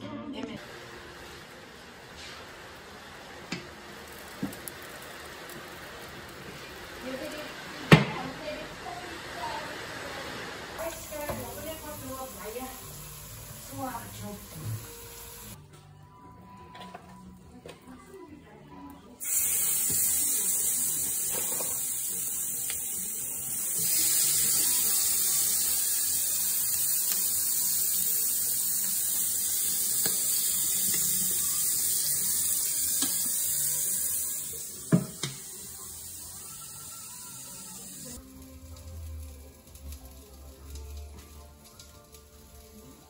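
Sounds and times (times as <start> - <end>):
chicken sizzling on grill: 0.6 - 15.6, 19.2 - 43.0.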